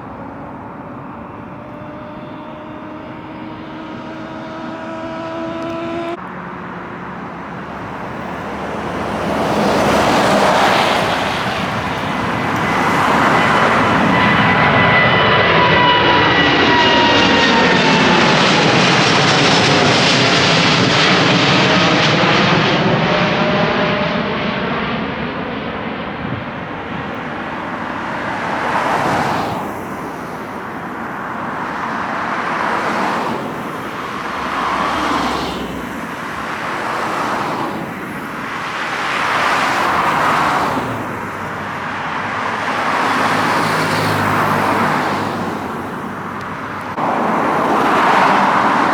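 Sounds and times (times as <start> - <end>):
jet airliner passing overhead: 0.0 - 48.9.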